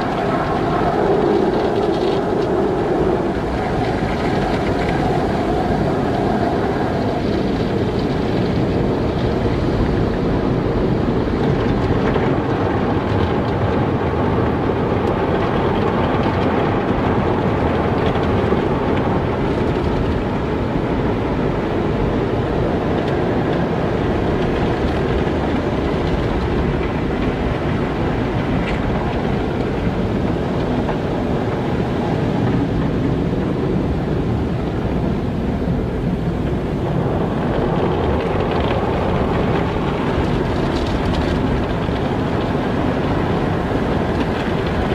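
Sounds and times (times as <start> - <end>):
car wash water and machinery: 0.0 - 44.9.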